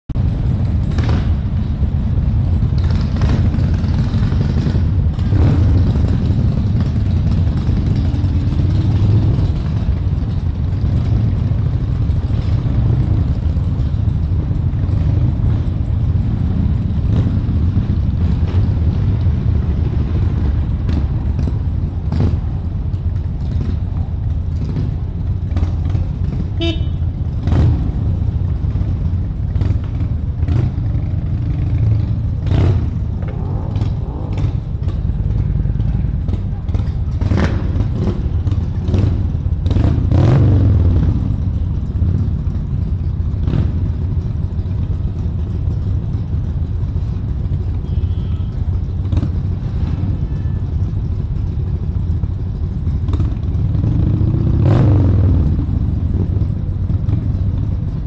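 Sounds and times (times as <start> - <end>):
motorcycle engines idling: 0.1 - 58.0.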